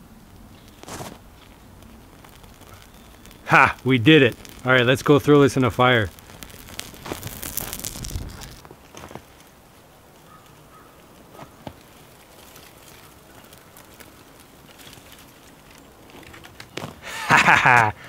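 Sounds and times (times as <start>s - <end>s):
small twig fire crackling: 0.0s - 18.0s
tinder bundle crackling and rustling: 0.1s - 17.9s.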